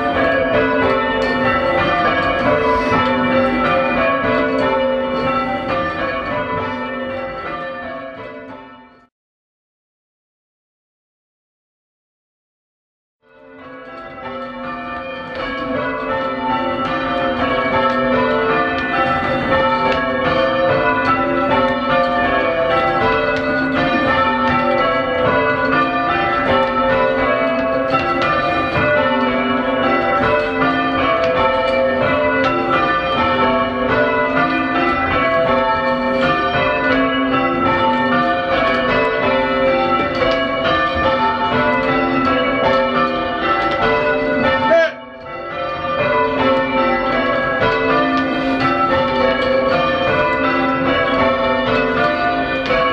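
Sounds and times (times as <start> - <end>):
church bells ringing in changes: 0.0 - 9.1, 13.2 - 52.9.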